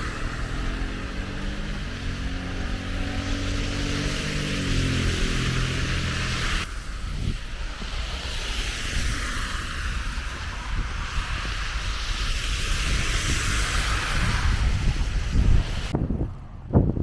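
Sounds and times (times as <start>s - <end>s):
street traffic hiss: 0.0s - 15.9s
wind buffeting microphone: 0.0s - 17.0s.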